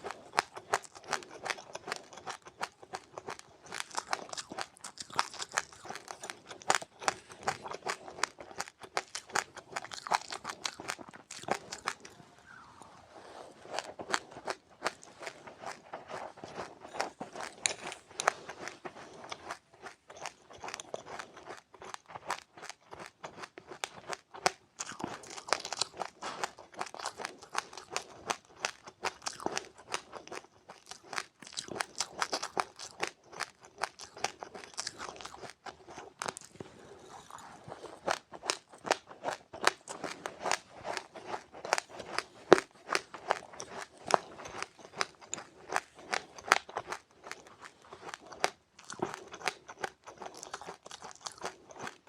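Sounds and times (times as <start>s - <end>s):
chewing crunchy seeds: 0.0s - 52.0s.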